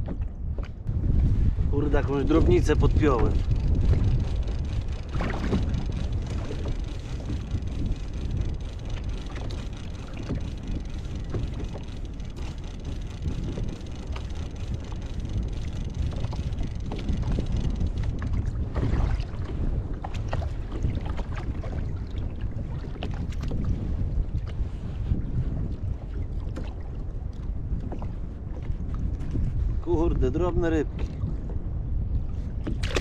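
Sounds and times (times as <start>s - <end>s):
waves splashing against kayak: 0.0s - 29.9s, 30.8s - 33.0s
wind buffeting microphone: 0.0s - 33.0s.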